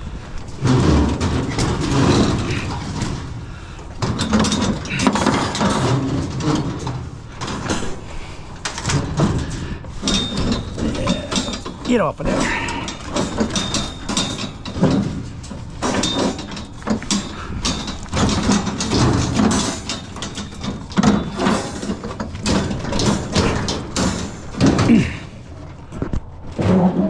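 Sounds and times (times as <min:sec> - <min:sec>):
scrap metal clanking and scraping: 0:00.0 - 0:27.0.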